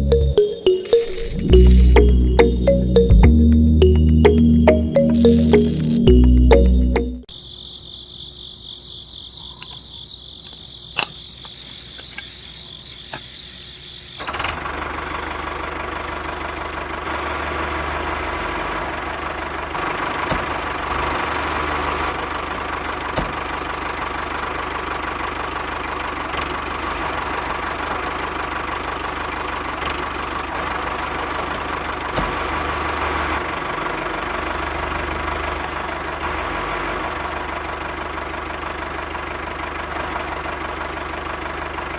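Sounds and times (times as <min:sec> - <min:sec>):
engine-like machine noise: 0:00.0 - 0:07.1, 0:10.9 - 0:41.9.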